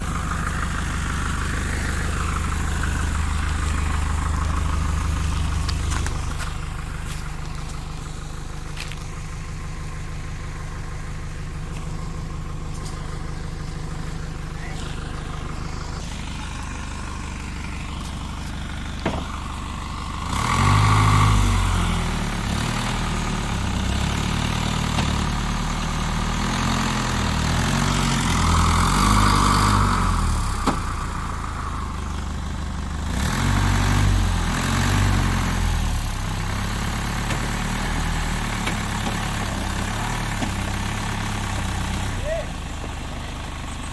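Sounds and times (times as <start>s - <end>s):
heavy truck engine revving: 0.0s - 43.9s.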